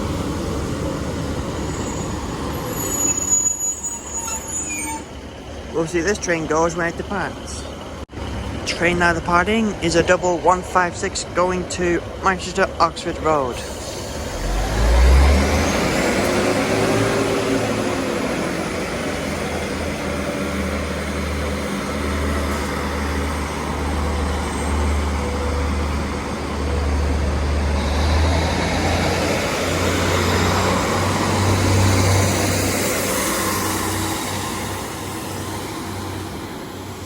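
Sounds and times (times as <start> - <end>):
diesel engines rumbling: 0.0 - 37.0.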